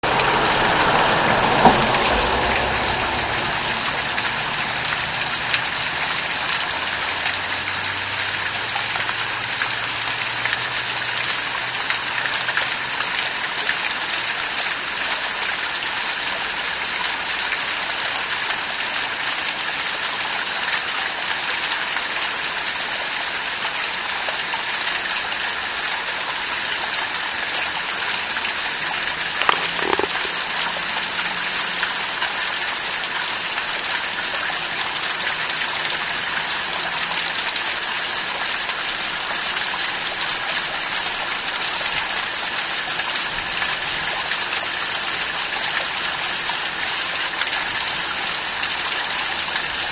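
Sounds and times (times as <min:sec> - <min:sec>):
waterfall rushing: 0:00.0 - 0:17.3, 0:23.5 - 0:49.9.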